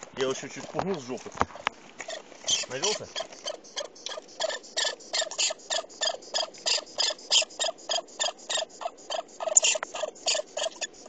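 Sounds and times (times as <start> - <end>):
lemming squeaking: 0.4 - 11.0.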